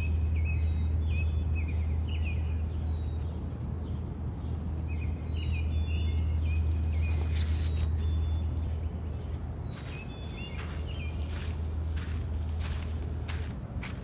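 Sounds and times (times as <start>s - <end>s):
small birds chirping and trilling: 0.0s - 14.0s
steady low rumble: 0.0s - 14.0s.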